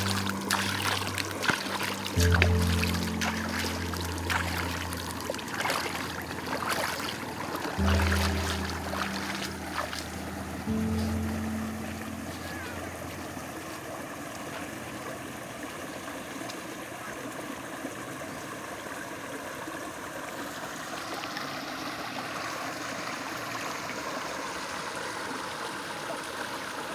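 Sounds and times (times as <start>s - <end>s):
stream water rushing and rippling: 0.0s - 26.9s.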